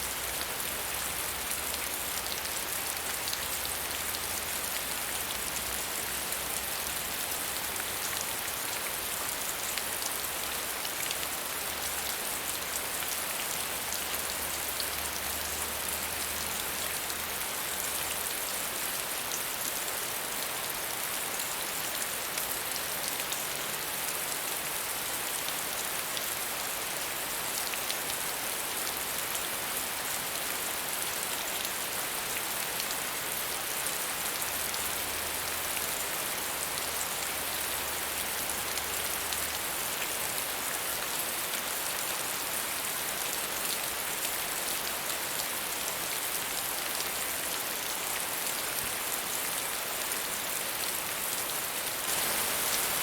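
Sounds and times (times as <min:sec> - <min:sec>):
rain hiss and patter: 0:00.0 - 0:53.0.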